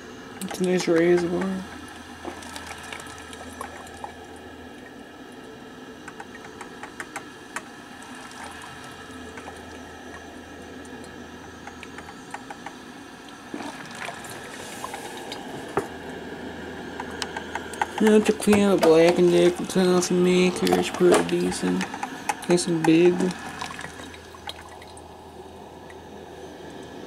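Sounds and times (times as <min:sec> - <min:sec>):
coffee maker water bubbling: 0:00.1 - 0:27.0.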